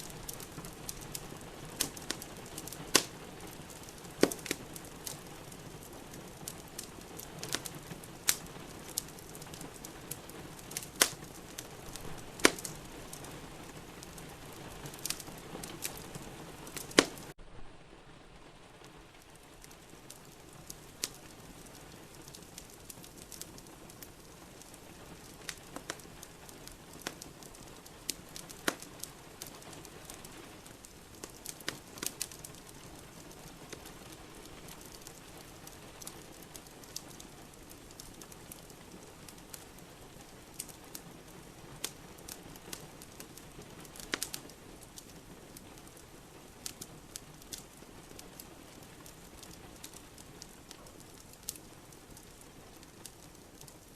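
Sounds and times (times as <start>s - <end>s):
rain hissing: 0.0s - 53.9s
wood fire crackling: 0.0s - 53.9s.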